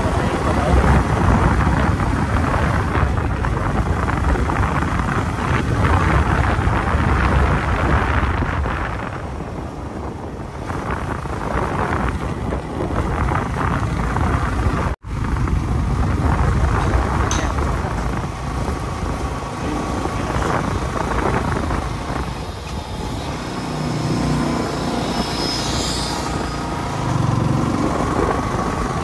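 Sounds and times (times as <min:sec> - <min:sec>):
motorcycle engine: 0:00.0 - 0:29.0
road noise: 0:00.0 - 0:29.0
wind rushing over microphone: 0:00.0 - 0:29.0.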